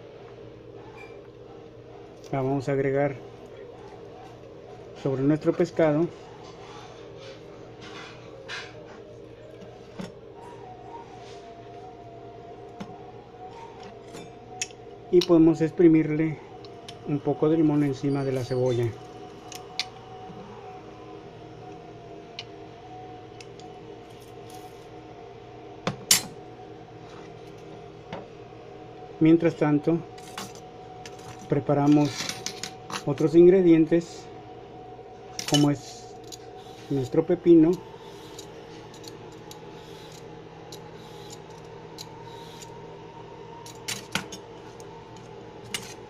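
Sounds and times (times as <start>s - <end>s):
steady hum: 0.0s - 46.0s.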